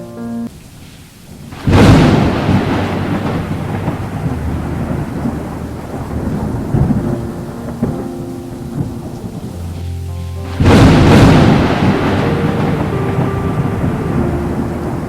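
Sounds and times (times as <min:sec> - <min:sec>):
steady rain: 0:00.5 - 0:15.0
thunder cracking and rumbling: 0:00.5 - 0:15.0.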